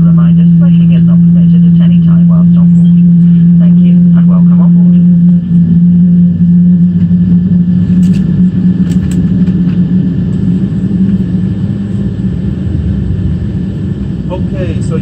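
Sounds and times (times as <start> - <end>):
airliner cabin hum and rumble: 0.0 - 15.0.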